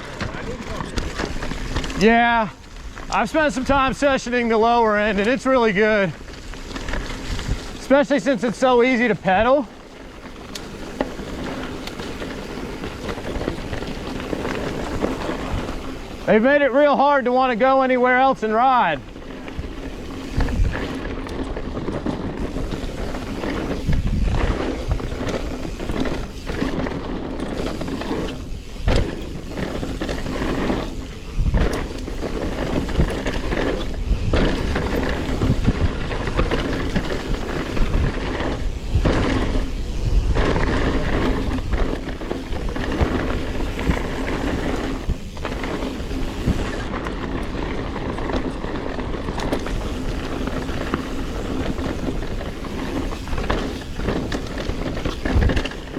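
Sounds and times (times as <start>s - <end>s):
bike knocking and rattling: 0.0s - 55.9s
bike tyre and wind noise: 0.0s - 55.9s.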